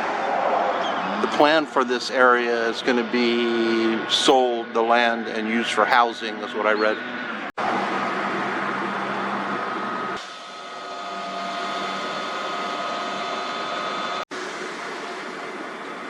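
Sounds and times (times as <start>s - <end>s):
continuous hum: 0.0s - 16.0s.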